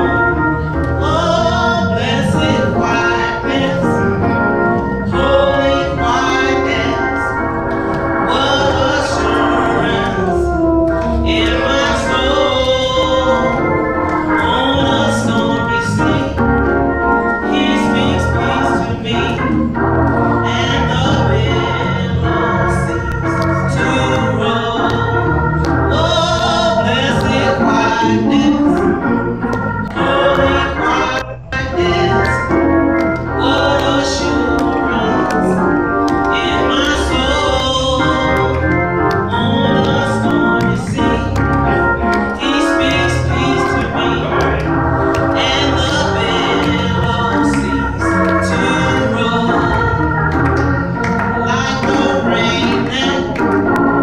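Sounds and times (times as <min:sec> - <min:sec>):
organ chords: 0:00.0 - 0:54.0
woman singing gospel: 0:00.0 - 0:54.0.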